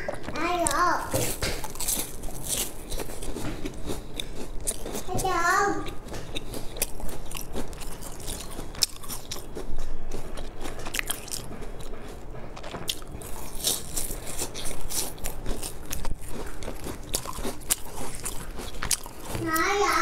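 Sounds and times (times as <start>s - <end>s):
chewing crunchy pastry: 0.0s - 20.0s.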